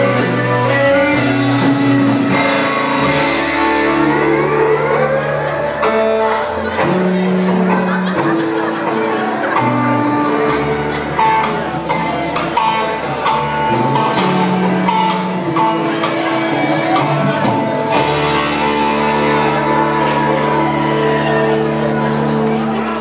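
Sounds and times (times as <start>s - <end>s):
country band playing: 0.0s - 23.0s.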